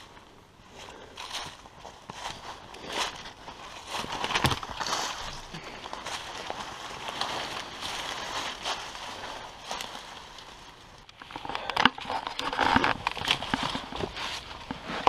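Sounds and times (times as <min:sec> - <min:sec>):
footsteps crunching over rubble: 0:00.0 - 0:15.0
undergrowth rustling: 0:00.0 - 0:15.0.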